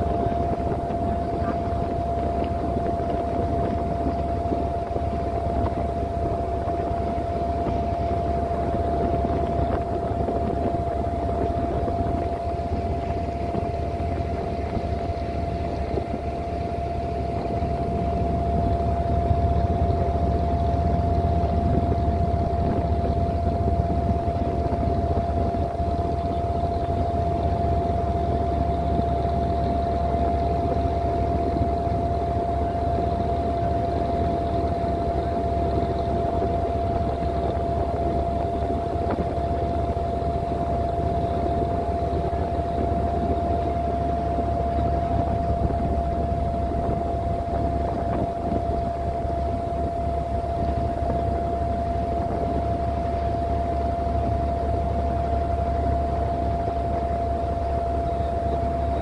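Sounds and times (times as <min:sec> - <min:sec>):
boat diesel engine droning: 0:00.0 - 0:59.0
water rushing along hull: 0:00.0 - 0:59.0.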